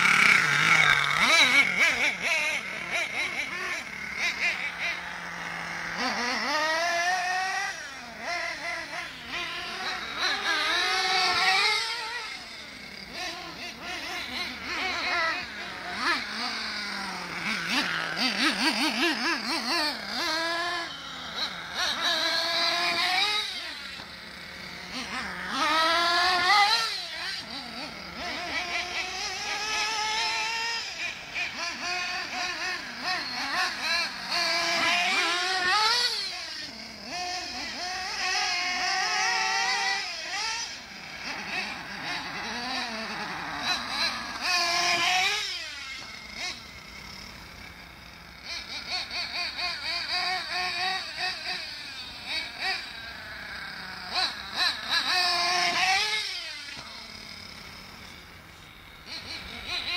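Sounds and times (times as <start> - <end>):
rc car engines revving: 0.0 - 59.9.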